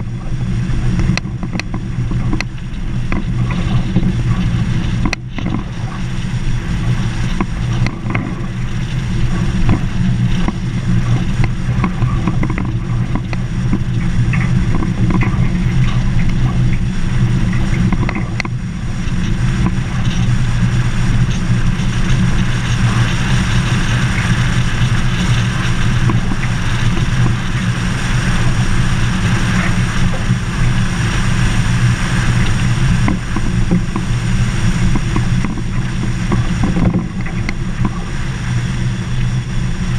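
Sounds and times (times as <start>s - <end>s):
vehicle engine drone: 0.0s - 39.9s.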